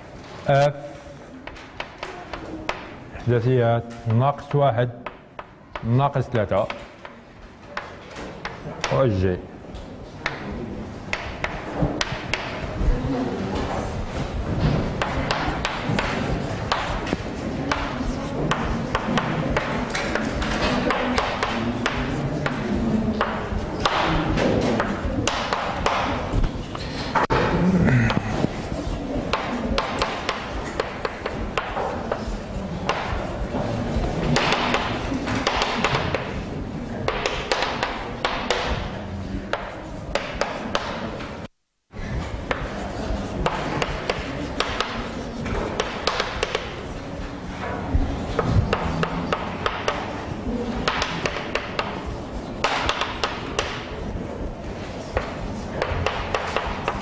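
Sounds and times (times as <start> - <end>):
chalk writing on a blackboard: 1.4 - 3.1, 6.6 - 8.9, 11.1 - 12.7, 13.7 - 27.3, 28.1 - 57.0.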